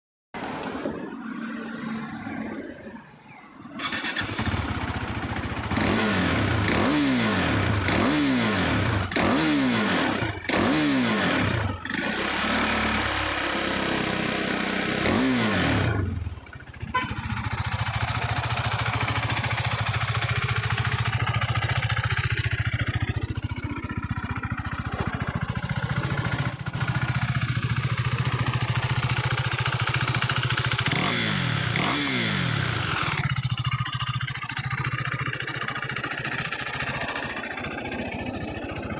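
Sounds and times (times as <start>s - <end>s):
motorcycle engine revving and idling: 3.8s - 38.9s.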